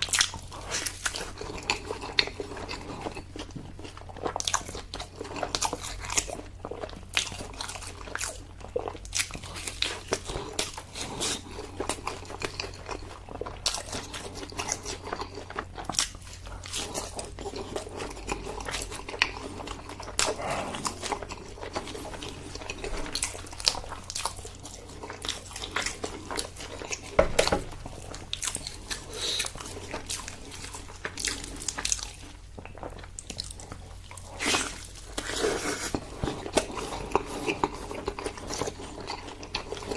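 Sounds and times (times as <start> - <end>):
chewing and biting food: 0.0 - 39.9
steady low hum: 0.0 - 39.9.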